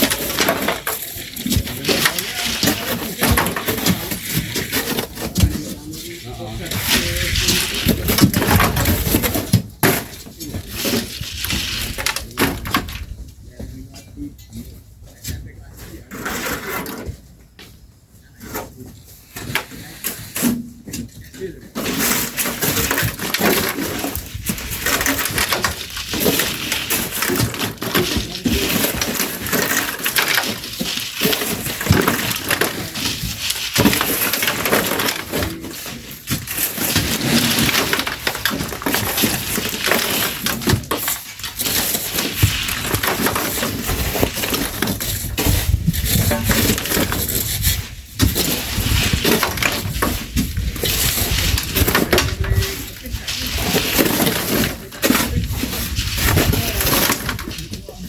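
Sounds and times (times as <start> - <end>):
shovels scraping sand and grit: 0.0 - 13.1, 15.9 - 17.0, 18.4 - 20.7, 21.6 - 58.0.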